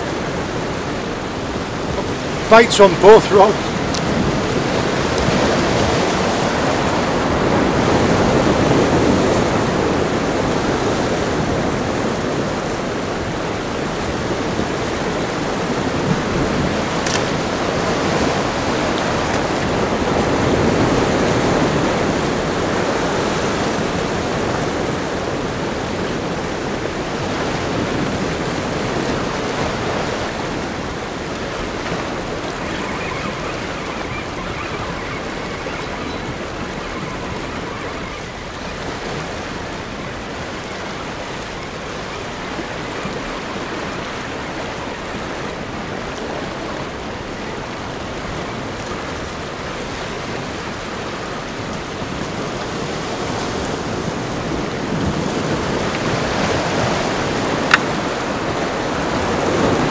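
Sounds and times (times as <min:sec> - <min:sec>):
surf washing against rocks: 0:00.0 - 0:59.9.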